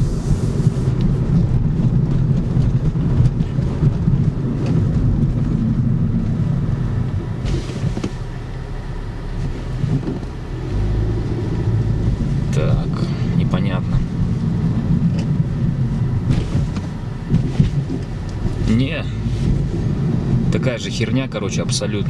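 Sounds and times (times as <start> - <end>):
car engine running: 0.0 - 22.0
low road rumble: 0.0 - 22.0.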